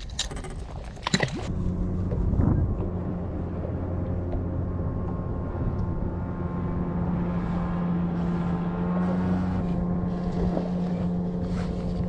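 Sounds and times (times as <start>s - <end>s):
boat motor humming: 0.0s - 12.0s
water noise: 0.0s - 12.0s
wind noise: 0.0s - 12.0s.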